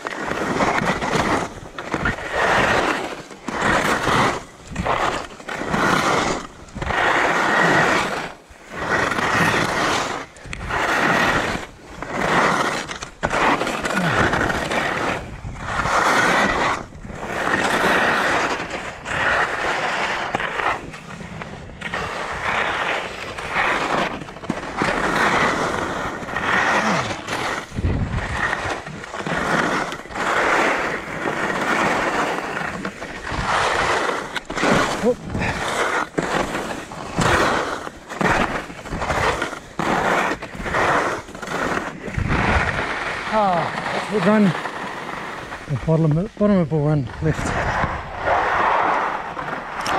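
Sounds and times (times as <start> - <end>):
skis scraping over icy snow: 0.0 - 49.9.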